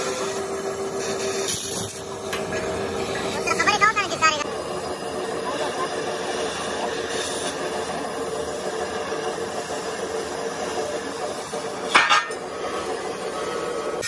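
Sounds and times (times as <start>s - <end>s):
cutting torch hissing: 0.0s - 14.0s.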